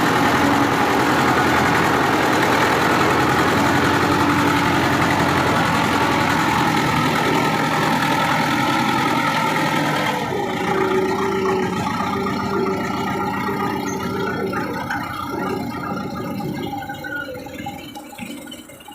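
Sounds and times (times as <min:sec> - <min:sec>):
tractor diesel engine running: 0:00.0 - 0:18.8.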